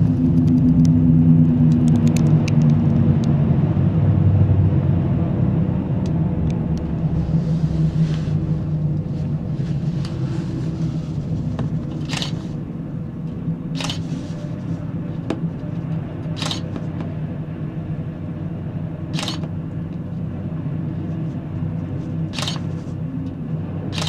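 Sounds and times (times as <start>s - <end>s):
gondola cabin rumble and hum: 0.0s - 24.0s.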